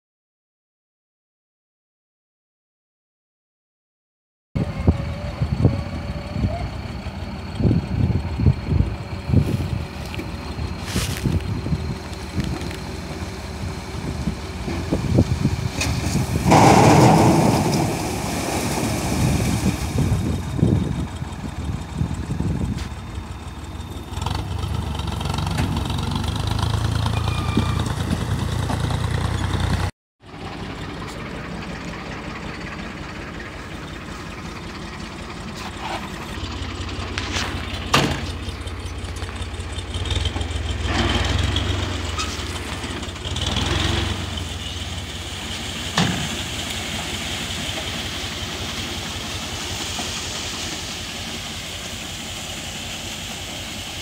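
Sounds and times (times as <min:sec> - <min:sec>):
tractor engine idling: 0:04.6 - 0:15.8, 0:19.6 - 0:54.0
diesel tractor engines running: 0:04.6 - 0:54.0.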